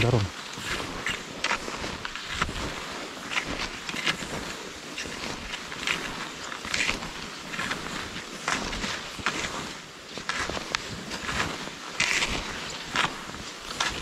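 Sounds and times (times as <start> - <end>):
skis swishing through snow: 0.0 - 14.0.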